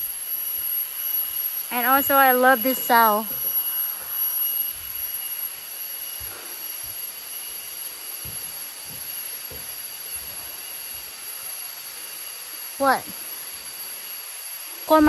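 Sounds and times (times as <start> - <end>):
high-pitched insect calls: 0.0 - 15.0.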